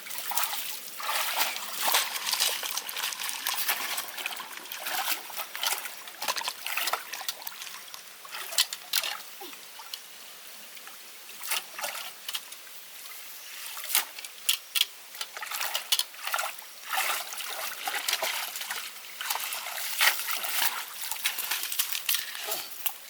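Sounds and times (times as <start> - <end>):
water splashing and dribbling: 0.0 - 23.0.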